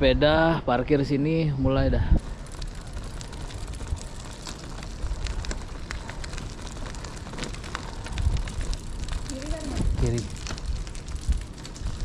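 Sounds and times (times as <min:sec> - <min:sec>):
wind rumble on microphone: 0:01.5 - 0:12.0
bike tyres crackling on gravel: 0:02.2 - 0:12.0.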